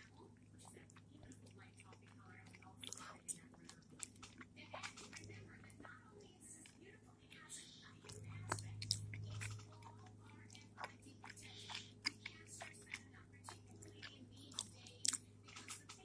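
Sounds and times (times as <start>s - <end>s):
chewing crunchy rice cake: 0.0s - 16.0s.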